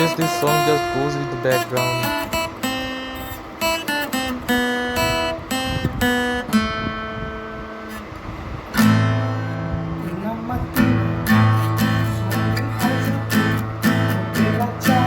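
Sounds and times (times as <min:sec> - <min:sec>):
acoustic guitar notes and chords: 0:00.0 - 0:15.0.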